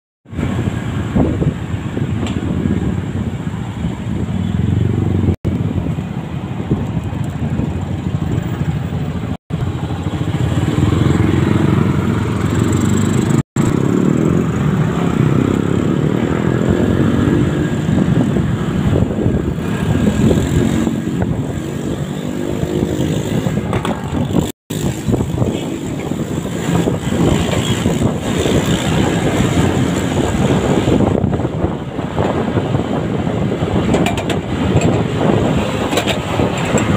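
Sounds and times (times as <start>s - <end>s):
wind and road noise: 0.2s - 36.9s.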